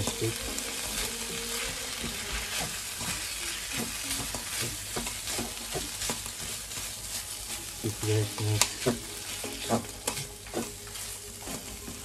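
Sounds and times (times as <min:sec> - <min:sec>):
meat sizzling in a frying pan: 0:00.0 - 0:12.0
spatula scraping a pan: 0:00.0 - 0:12.0.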